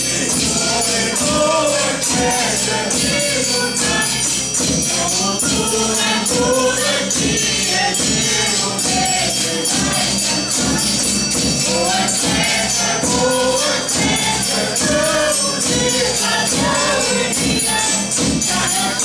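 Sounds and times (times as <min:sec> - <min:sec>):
drum and percussion beat: 0:00.0 - 0:19.0
men and women singing together: 0:00.0 - 0:19.0.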